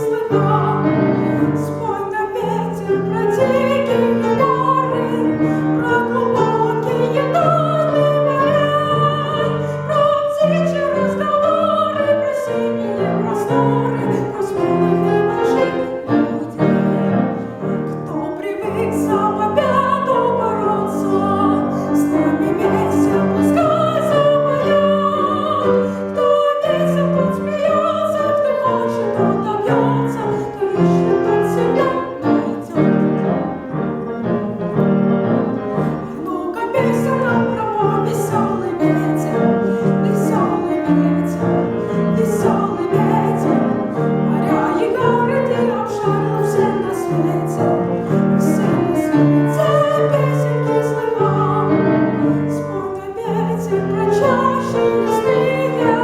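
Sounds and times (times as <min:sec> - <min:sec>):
person singing classical style: 0:00.0 - 0:56.0
piano accompaniment: 0:00.0 - 0:56.0.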